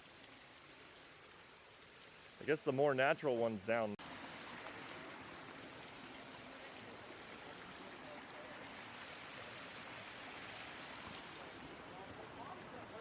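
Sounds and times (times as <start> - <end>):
creek and waterfall rushing: 0.0 - 13.0.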